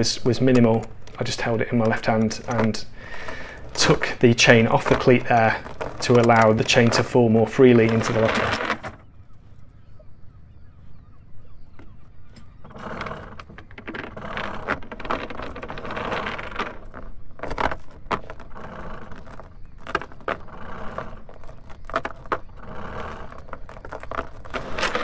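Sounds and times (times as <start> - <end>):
anchor chain rattling: 0.0 - 9.1, 12.4 - 25.0.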